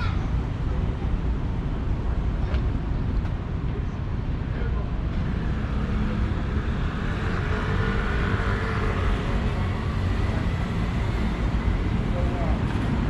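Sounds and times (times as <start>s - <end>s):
steady low traffic rumble: 0.0s - 13.0s.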